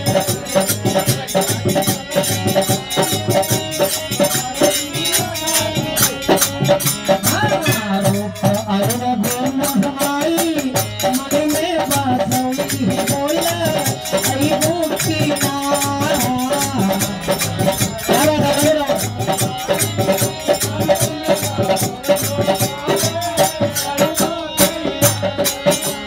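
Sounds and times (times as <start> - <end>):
man singing: 0.0 - 26.0
rattling percussion beat: 0.0 - 26.0.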